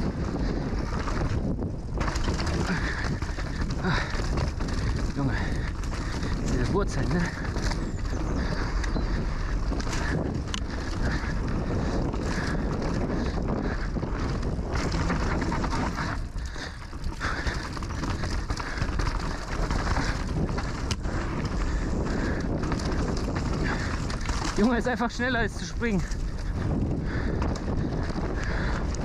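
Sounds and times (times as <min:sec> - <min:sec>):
bike rattling and knocking: 0:00.0 - 0:29.0
knobby tyres rolling over dirt: 0:00.0 - 0:29.0
wind on camera microphone: 0:00.0 - 0:29.0.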